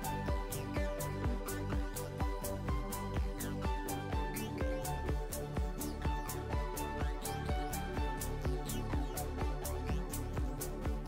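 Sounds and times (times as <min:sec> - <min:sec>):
low kick drum: 0:00.0 - 0:11.0
music with steady beat: 0:00.0 - 0:11.0.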